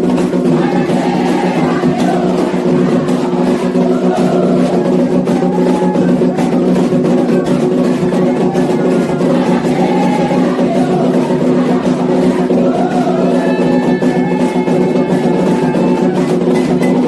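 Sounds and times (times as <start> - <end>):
hand drums beating fast rhythm: 0.0 - 17.0
voices singing: 0.0 - 17.0.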